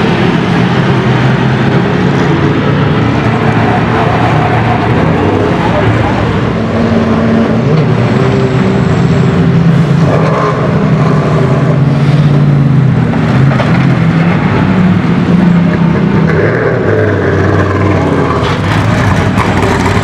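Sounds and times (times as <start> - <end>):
race car engine at low revs: 0.0 - 20.0.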